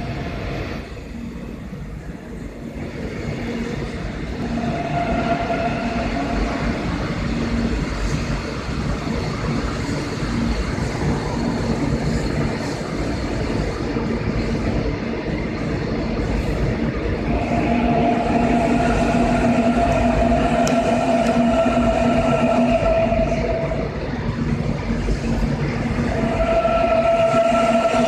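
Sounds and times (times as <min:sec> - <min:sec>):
train wheels running on rails: 0:00.0 - 0:28.0.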